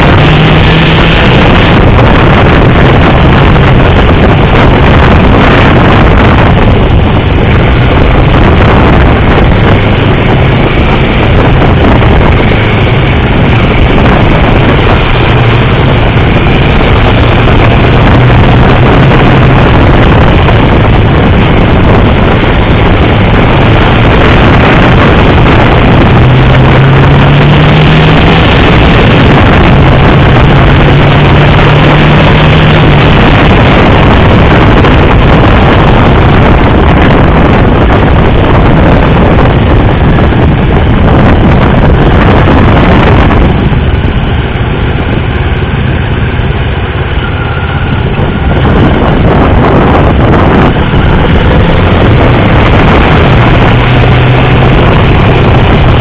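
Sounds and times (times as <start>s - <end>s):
motorcycle engine at speed: 0.0s - 56.0s
wind rushing: 0.0s - 56.0s.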